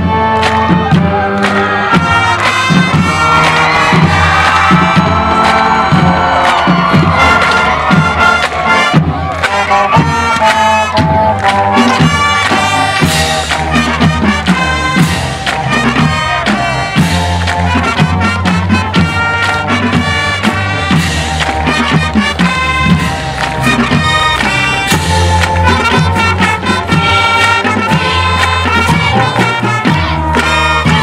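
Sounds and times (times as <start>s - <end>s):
marching band playing: 0.0s - 31.0s.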